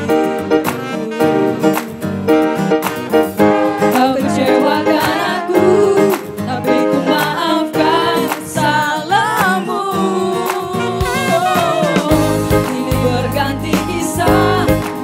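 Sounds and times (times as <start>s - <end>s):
person singing: 0.0s - 2.2s, 3.6s - 15.0s.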